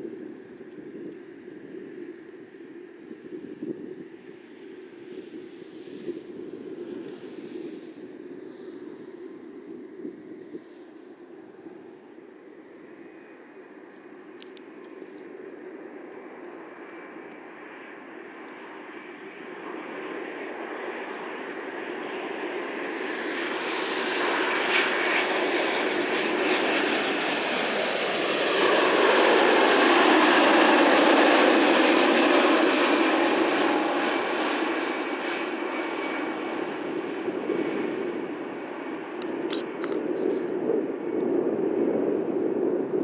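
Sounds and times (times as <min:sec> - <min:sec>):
jet airliner engines passing: 0:00.0 - 0:43.0.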